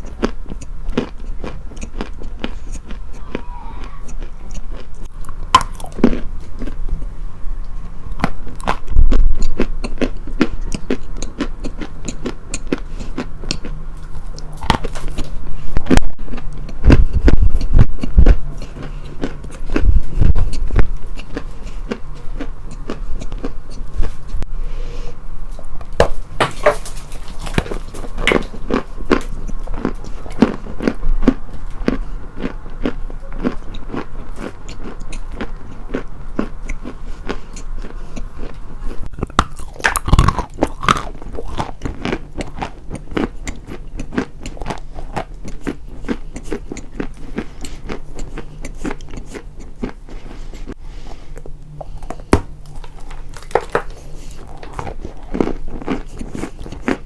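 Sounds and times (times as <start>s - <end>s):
crunchy food being chewed: 0.0s - 24.5s, 25.5s - 57.0s.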